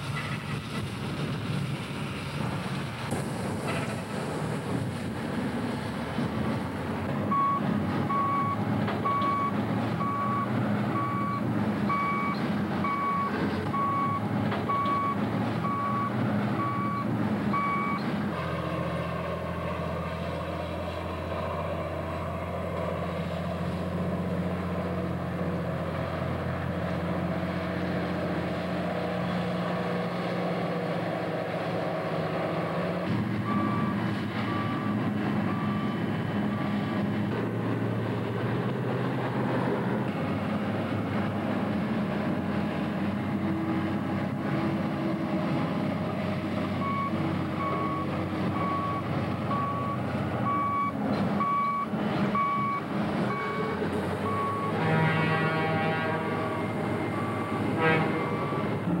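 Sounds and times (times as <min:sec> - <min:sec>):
wheel loader engine running: 0:00.0 - 0:59.0.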